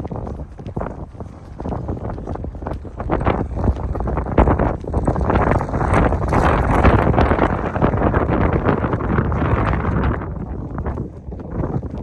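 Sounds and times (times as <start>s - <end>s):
footsteps on brick paving: 0.0s - 12.0s
wind buffeting microphone: 0.0s - 12.0s.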